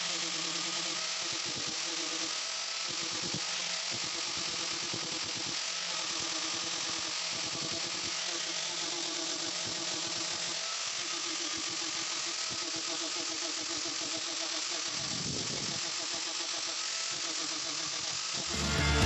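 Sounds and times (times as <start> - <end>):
angle grinder motor whine: 0.0 - 19.0
sanding disc hissing on wood: 0.0 - 19.0.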